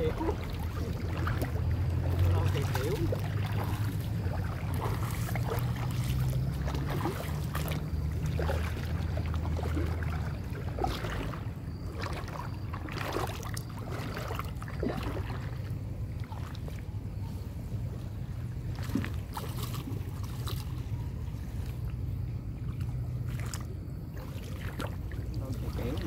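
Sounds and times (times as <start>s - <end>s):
low steady rumble: 0.0s - 26.0s
water splashing from wading: 0.0s - 26.0s.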